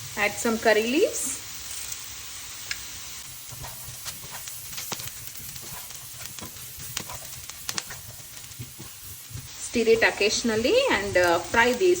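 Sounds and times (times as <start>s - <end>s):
crackles and pops in hot oil: 0.0s - 12.0s
potatoes sizzling in oil: 0.0s - 12.0s.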